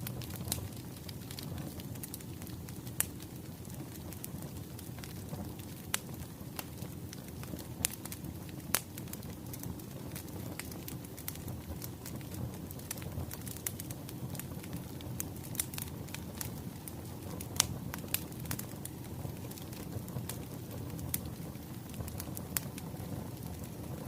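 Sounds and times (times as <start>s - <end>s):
fire rumbling: 0.0s - 24.0s
firewood crackling and popping: 0.0s - 24.0s.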